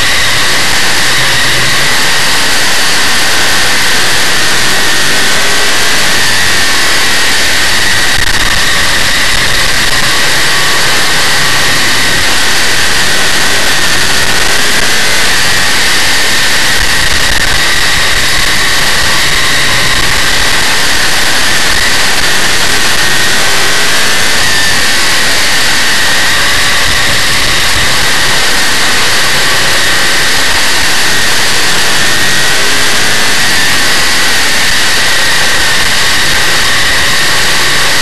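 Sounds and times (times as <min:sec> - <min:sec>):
constant high whine: 0:00.0 - 0:38.0
race car engine running hard: 0:00.0 - 0:38.0.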